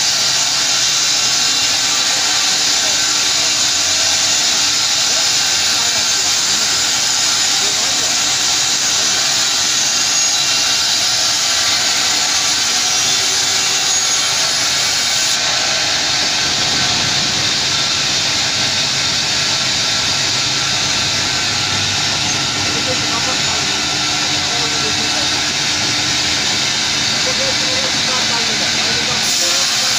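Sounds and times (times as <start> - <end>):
band saw cutting log: 0.0 - 29.9
extraction blower running: 0.0 - 29.9.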